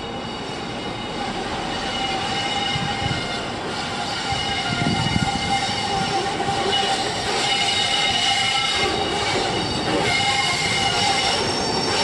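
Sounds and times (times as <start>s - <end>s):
diesel train engine rumble: 0.0s - 12.0s
train wheel squeal: 0.0s - 12.0s.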